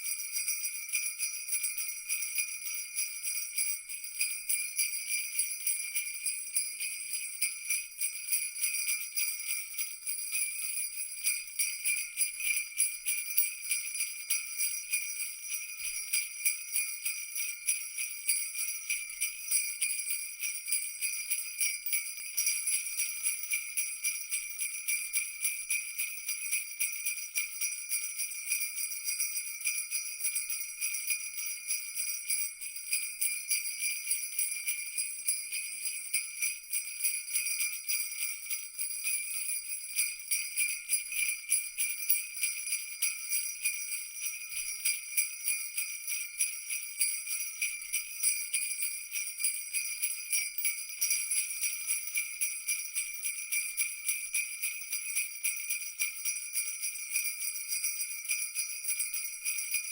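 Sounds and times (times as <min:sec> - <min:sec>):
jingle bells shaken: 0:00.0 - 0:59.9.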